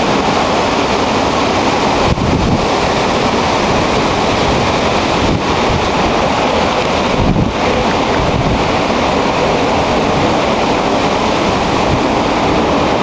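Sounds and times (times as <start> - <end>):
strong wind through trees: 0.0 - 13.0
wind buffeting microphone: 0.0 - 13.0.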